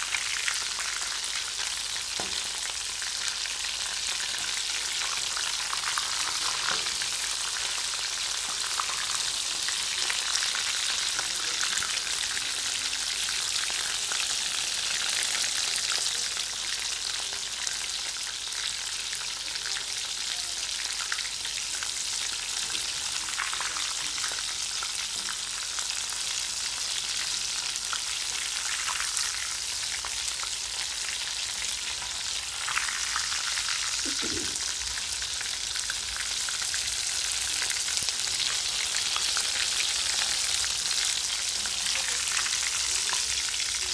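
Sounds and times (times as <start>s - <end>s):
food deep-frying in hot oil: 0.0s - 43.9s.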